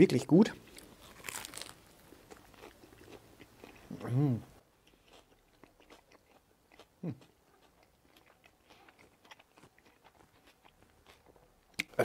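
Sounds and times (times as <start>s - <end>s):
person chewing crunchy food: 0.6s - 12.0s.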